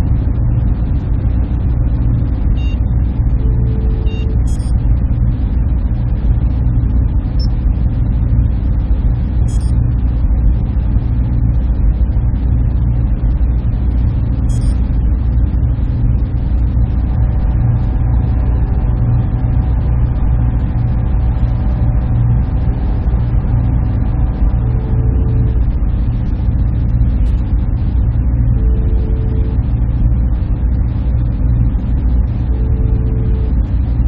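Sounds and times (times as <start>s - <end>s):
machines and cooling fans humming: 0.0s - 34.0s.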